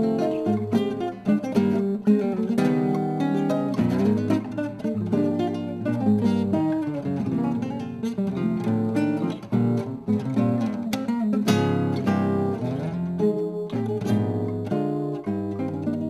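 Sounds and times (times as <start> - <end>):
classical guitars playing tango: 0.0 - 16.0.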